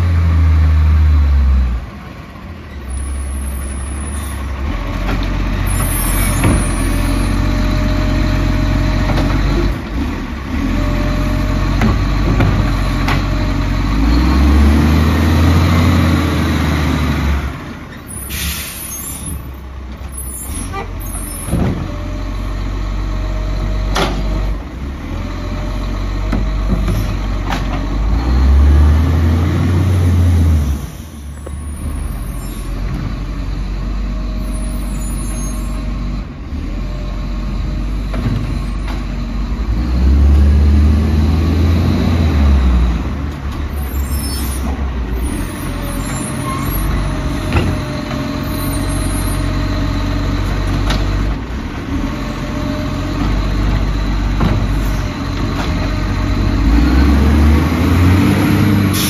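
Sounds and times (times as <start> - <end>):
garbage truck diesel engine revving: 0.0 - 59.0.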